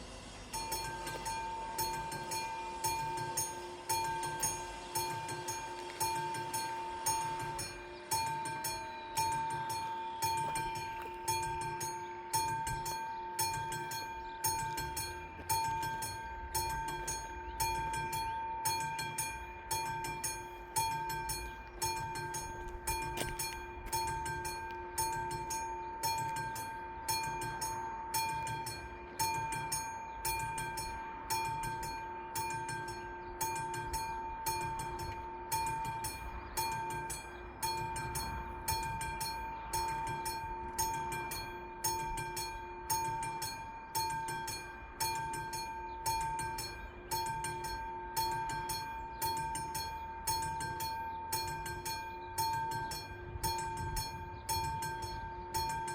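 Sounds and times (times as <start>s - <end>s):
level crossing warning bells: 0.0s - 55.9s.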